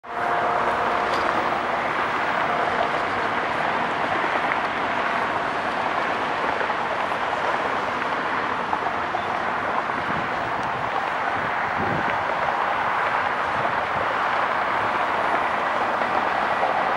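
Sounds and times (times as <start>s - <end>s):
jet engines at takeoff thrust: 0.0s - 16.9s.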